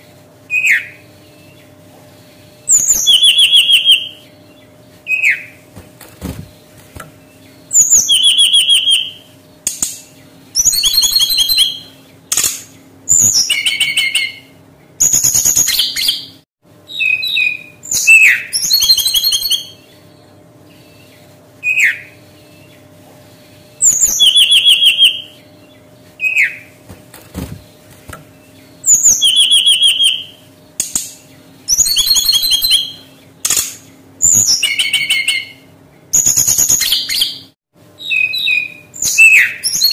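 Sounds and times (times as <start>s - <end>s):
bird singing trills and whistles: 0.5s - 1.8s, 2.6s - 5.6s, 6.2s - 22.9s, 23.6s - 26.8s, 27.4s - 39.9s.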